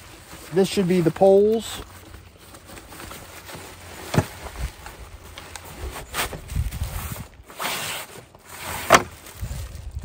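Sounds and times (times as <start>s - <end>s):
fabric rustling and scraping: 0.0s - 10.0s.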